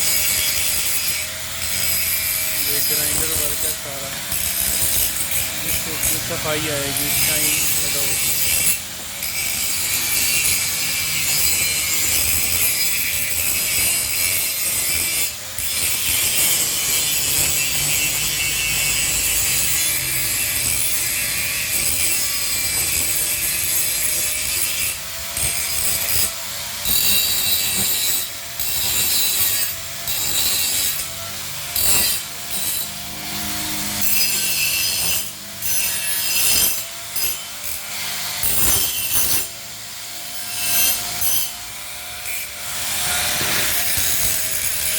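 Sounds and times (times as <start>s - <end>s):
angle grinder grinding metal: 0.0s - 44.9s.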